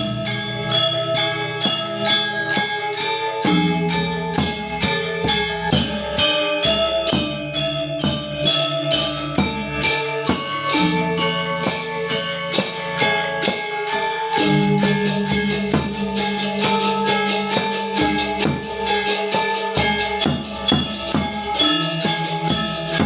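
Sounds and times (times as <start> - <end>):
gamelan ensemble playing: 0.0 - 23.0.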